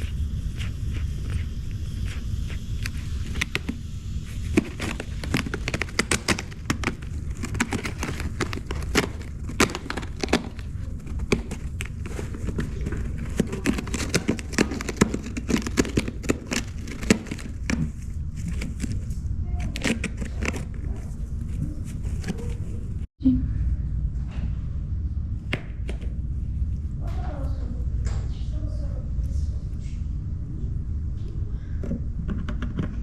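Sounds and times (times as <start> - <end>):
low hum: 0.0 - 33.0.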